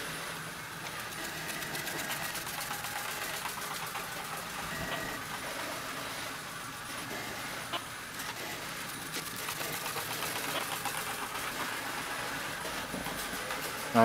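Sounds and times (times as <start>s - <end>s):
robot mop whirring and clicking: 0.8s - 14.0s.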